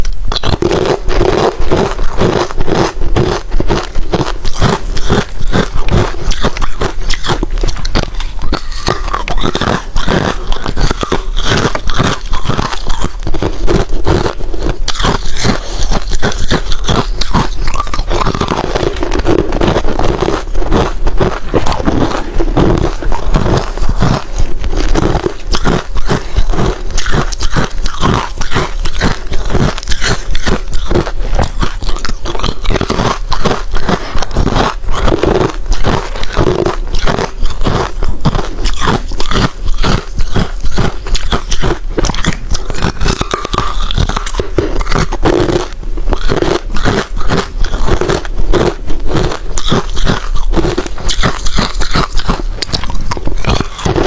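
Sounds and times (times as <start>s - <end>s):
mouth chewing crushed ice: 0.0s - 54.0s.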